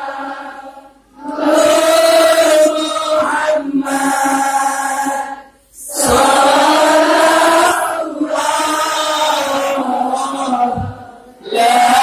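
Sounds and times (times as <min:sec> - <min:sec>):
congregation chanting in unison: 0:00.0 - 0:12.0.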